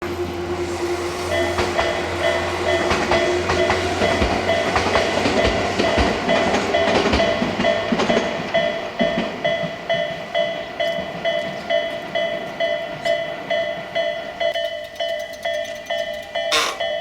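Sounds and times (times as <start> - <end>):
train running: 0.0 - 17.0
level-crossing warning bell: 0.2 - 17.0
train wheels clacking: 1.2 - 17.0.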